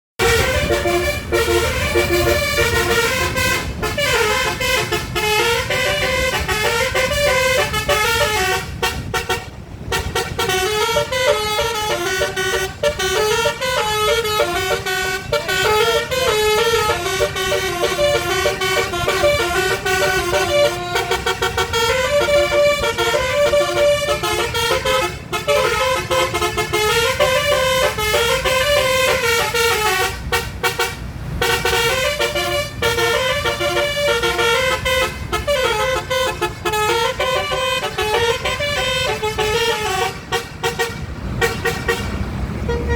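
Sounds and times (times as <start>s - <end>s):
bus horn playing melody: 0.2s - 42.9s.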